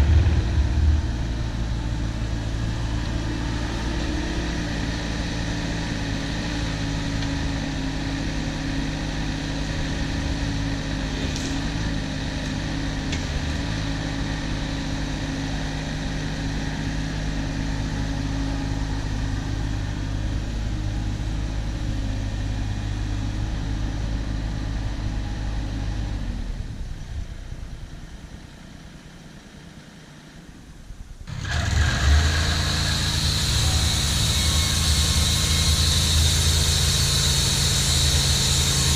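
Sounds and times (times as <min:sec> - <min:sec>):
sawmill engine running: 0:00.0 - 0:26.2, 0:31.3 - 0:38.9.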